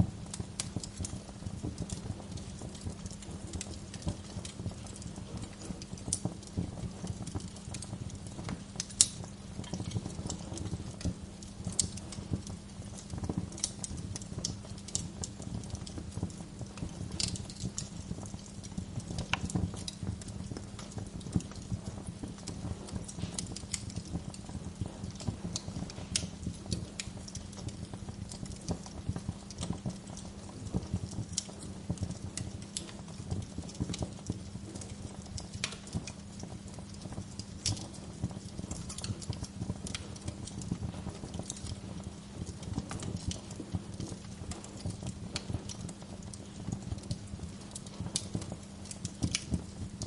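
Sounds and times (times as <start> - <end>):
low fire rumble and hum: 0.0 - 50.0
wood fire crackling: 0.0 - 50.0.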